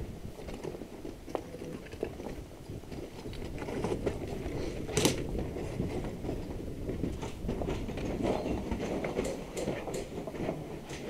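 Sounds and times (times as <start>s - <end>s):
footsteps crunching over rubble: 0.0s - 11.0s.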